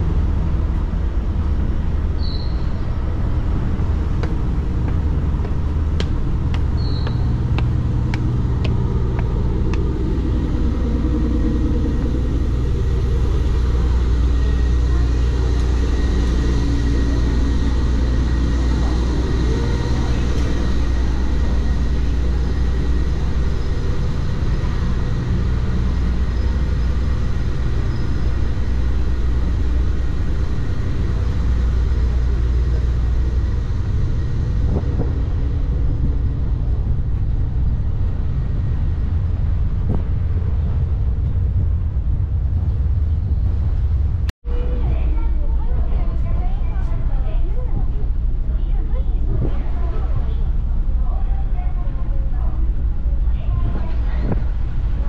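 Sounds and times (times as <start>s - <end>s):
low engine rumble: 0.0s - 55.0s.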